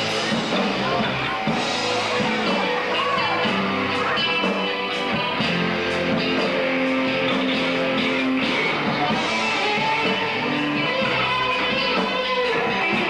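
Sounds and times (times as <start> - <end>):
electric guitar: 0.0 - 13.0
hard rock band playing: 0.0 - 13.0.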